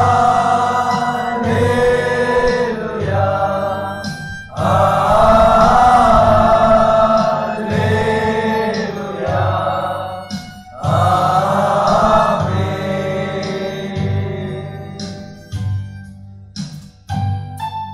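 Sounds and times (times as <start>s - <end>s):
group singing devotional song: 0.0s - 15.6s
keyboard backing with beat: 0.0s - 17.9s.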